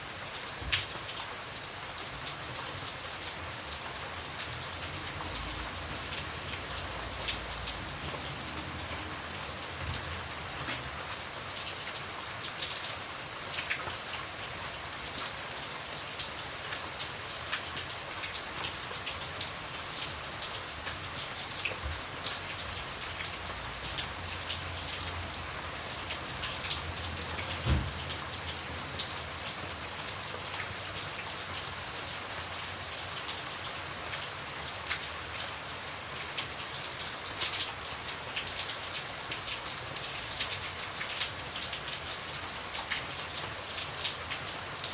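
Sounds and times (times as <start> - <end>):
light rain falling: 0.0 - 44.9.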